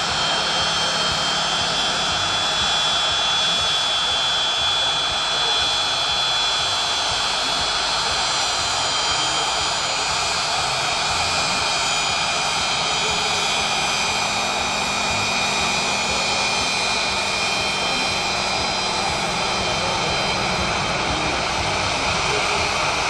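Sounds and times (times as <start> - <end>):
aircraft turbine engine roar: 0.0 - 23.0
high steady turbine whine: 0.0 - 23.0.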